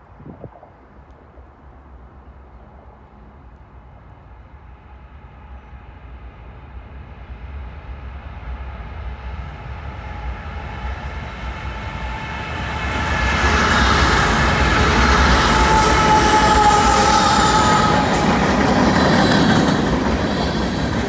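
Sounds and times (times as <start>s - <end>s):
freight train engine rumble: 0.0s - 21.0s.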